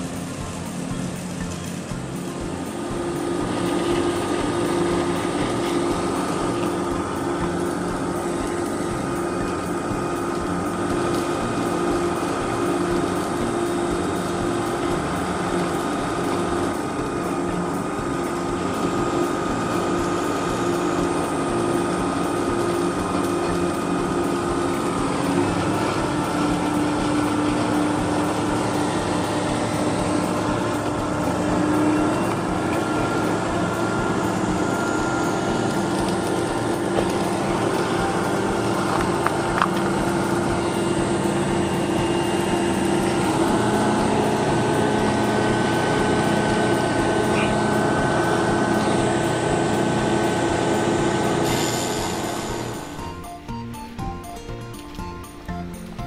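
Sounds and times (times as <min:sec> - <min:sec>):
construction machinery engines humming: 0:00.0 - 0:56.0.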